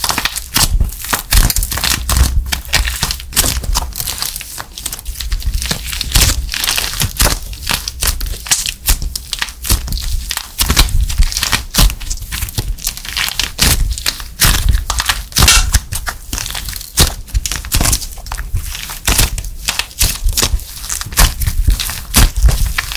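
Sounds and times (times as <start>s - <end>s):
clay crackling and crunching: 0.0s - 22.9s.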